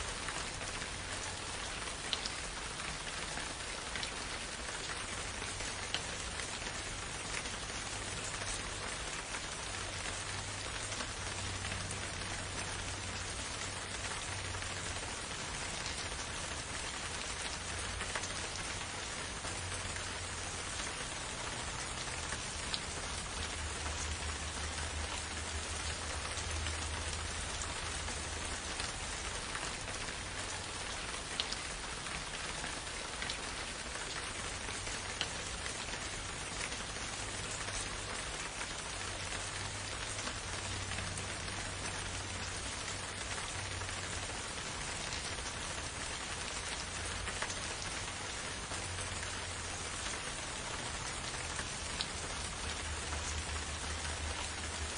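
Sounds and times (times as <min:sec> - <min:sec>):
rain on foliage: 0:00.0 - 0:54.9.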